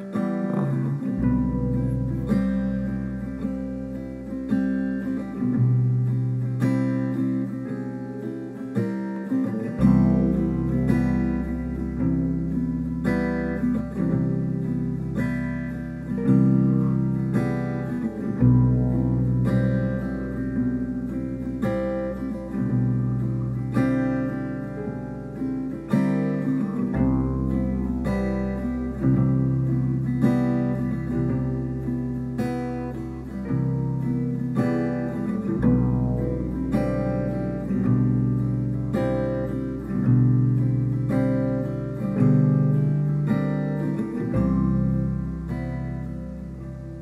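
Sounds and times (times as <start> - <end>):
low sustained note: 0.0 - 7.6, 9.3 - 47.0
strummed acoustic guitar: 0.0 - 47.0.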